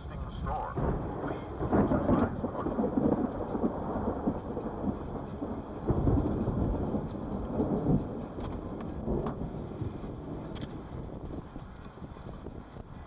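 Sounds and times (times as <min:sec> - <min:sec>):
steady rushing background: 0:00.0 - 0:13.0
thunder rumbling: 0:00.0 - 0:13.0.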